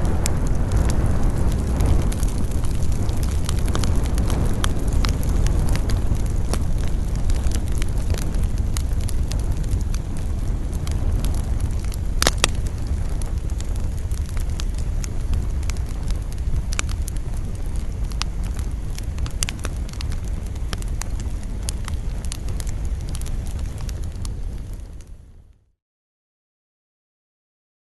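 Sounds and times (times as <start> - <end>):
campfire crackling and popping: 0.0 - 25.6
low rumble of wind: 0.0 - 25.7.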